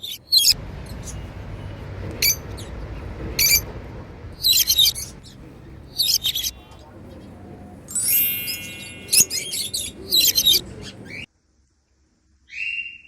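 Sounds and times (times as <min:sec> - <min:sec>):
lovebirds chirping: 0:00.0 - 0:11.3
low background hum: 0:00.0 - 0:11.3.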